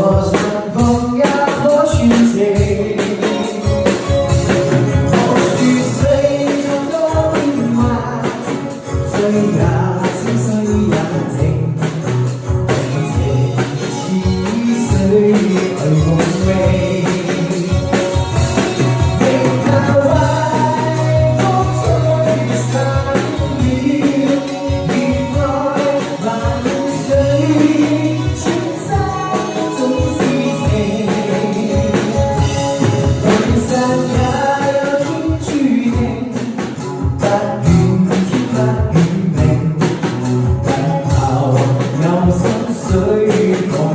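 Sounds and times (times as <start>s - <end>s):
pop song with singing and band: 0.0s - 43.9s.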